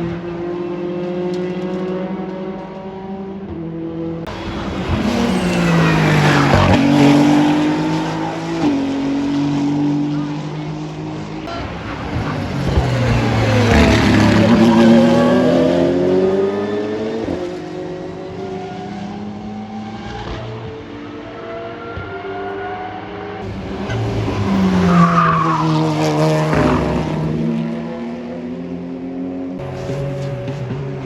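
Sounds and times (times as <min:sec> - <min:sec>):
racing cars passing: 0:00.0 - 0:31.0.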